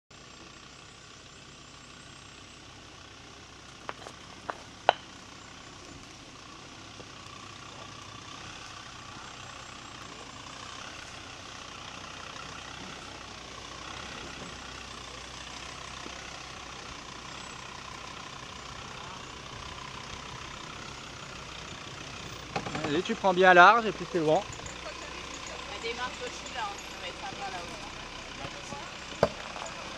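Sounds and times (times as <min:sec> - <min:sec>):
vehicle engine running low: 0:00.1 - 0:29.9.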